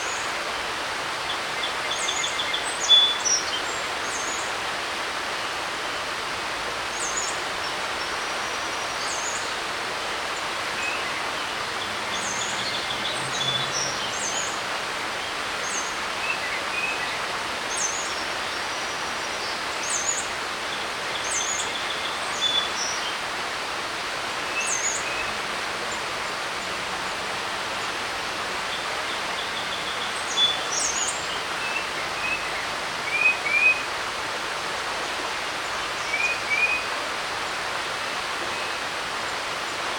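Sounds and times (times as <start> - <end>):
creek rushing: 0.0 - 39.9.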